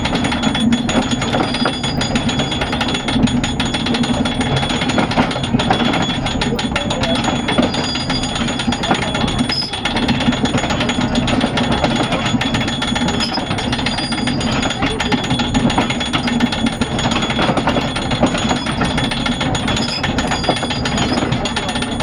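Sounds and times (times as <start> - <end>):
windlass ratchet clicking: 0.0 - 22.0.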